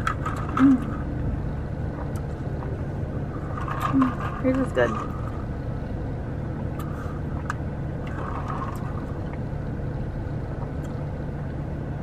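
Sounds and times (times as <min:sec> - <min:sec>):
car idling from inside: 0:00.0 - 0:12.0.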